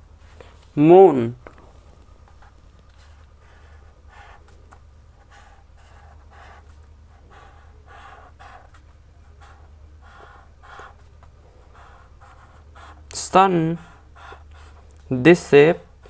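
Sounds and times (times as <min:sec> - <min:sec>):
low hum: 0:00.0 - 0:15.2
marker pen scratching on paper: 0:02.2 - 0:16.0.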